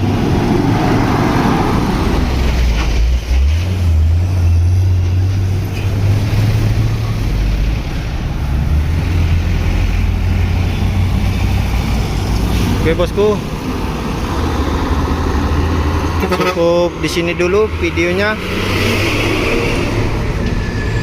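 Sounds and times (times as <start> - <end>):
heavy truck engine drone: 0.0 - 21.0.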